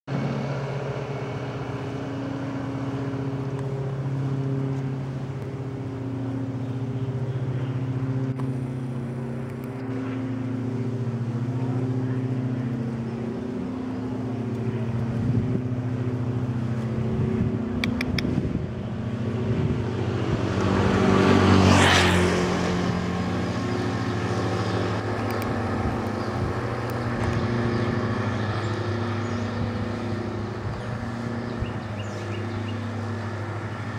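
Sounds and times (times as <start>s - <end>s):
vehicle engine humming: 0.0s - 33.9s
vehicle passing close by: 0.1s - 33.9s.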